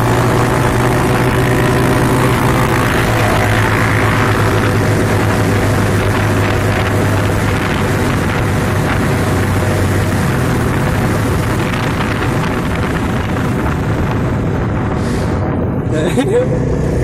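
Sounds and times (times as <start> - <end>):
motorcycle engine cruising: 0.0 - 17.0
wind buffeting microphone: 0.0 - 17.0.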